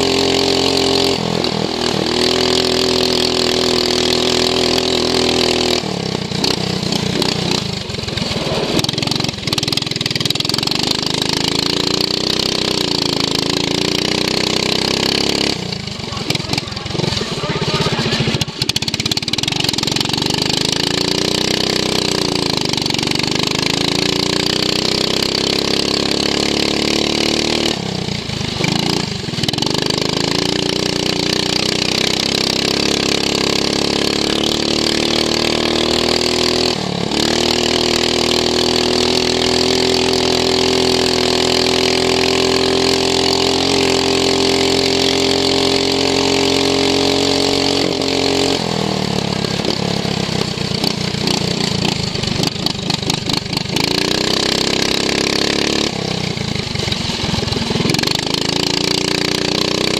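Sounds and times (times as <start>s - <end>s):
lawn mower engine revving: 0.0s - 59.9s.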